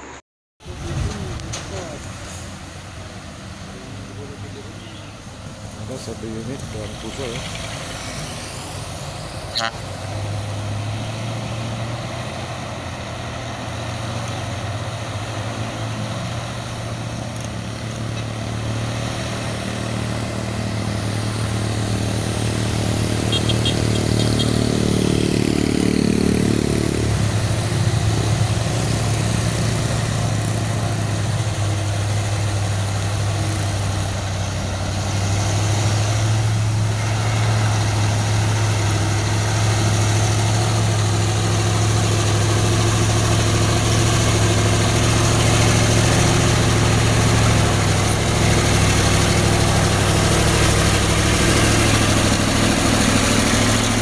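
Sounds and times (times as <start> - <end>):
heavy vehicle engines droning: 0.0 - 54.0.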